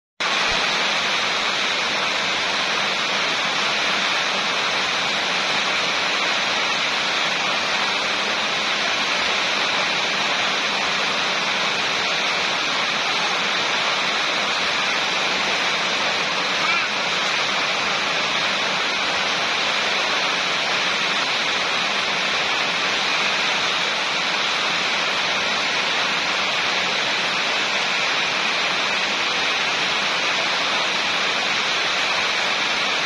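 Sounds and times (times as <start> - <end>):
rain falling steadily: 0.2 - 33.0.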